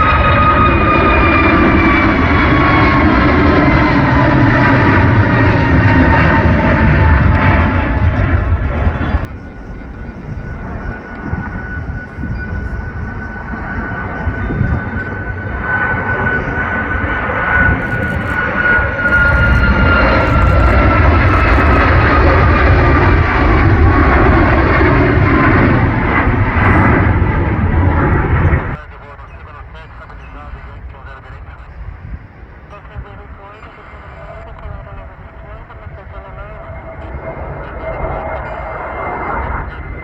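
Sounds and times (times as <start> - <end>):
jet airliner engines: 0.0 - 40.0.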